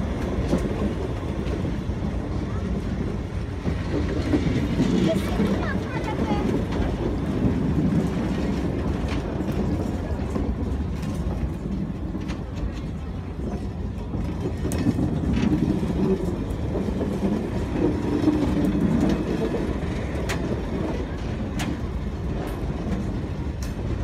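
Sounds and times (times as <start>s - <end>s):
train coaches rumbling past: 0.0s - 24.0s
wheels clicking on rails: 0.0s - 24.0s.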